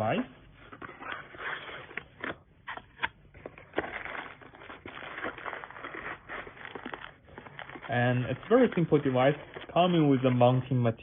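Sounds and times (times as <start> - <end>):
packaging crinkling and rustling: 0.1 - 11.0.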